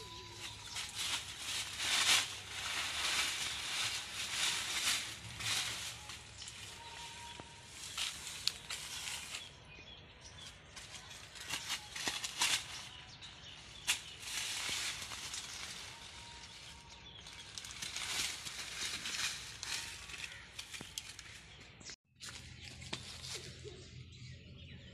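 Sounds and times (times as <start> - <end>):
dry leaves rustling and crackling: 0.0 - 9.7, 10.4 - 21.6, 22.2 - 23.8.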